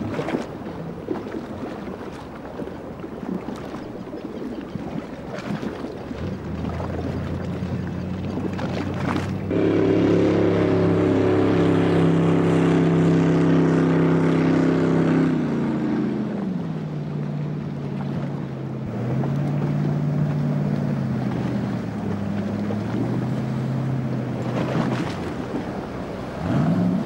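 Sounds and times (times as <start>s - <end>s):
motorboat engine drone: 0.0s - 27.0s
water noise: 0.0s - 27.0s
wind: 0.0s - 27.0s.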